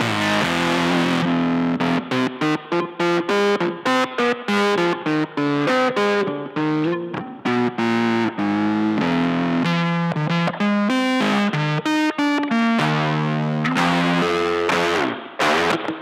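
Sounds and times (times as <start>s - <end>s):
electric guitar lead line: 0.0s - 16.0s.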